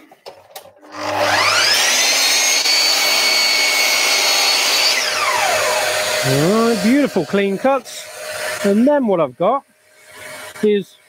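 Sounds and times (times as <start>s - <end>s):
mitre saw whining: 0.9s - 11.0s.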